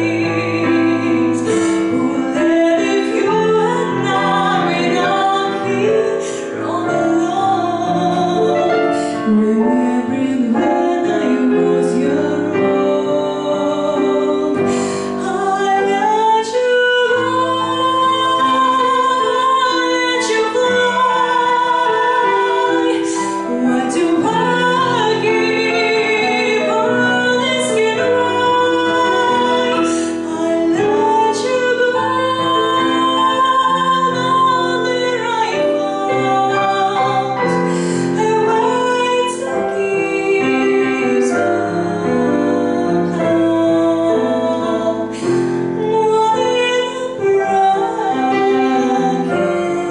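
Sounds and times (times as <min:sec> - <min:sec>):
piano accompaniment: 0:00.0 - 0:49.9
woman singing slow song: 0:00.0 - 0:49.9.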